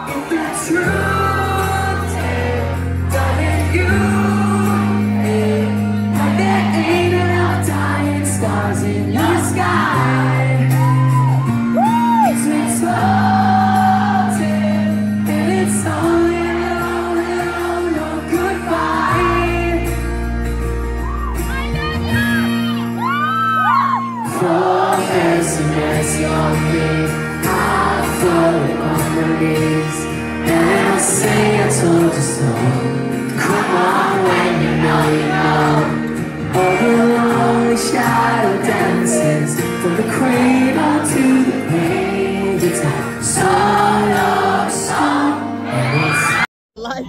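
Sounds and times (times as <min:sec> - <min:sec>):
live band with singing: 0:00.0 - 0:47.0.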